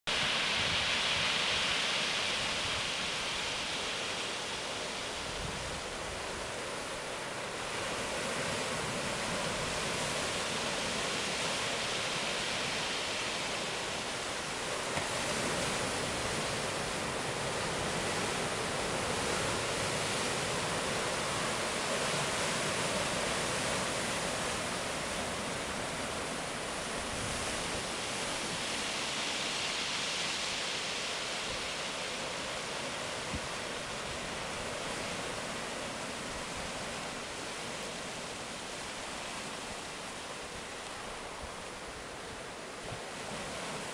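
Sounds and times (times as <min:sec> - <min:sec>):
sea surf breaking on rocks: 0:00.1 - 0:43.9.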